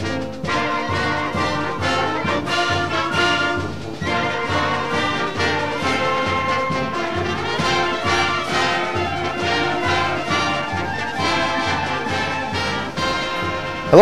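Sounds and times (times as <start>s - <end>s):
brass-led orchestral music: 0.0s - 14.0s.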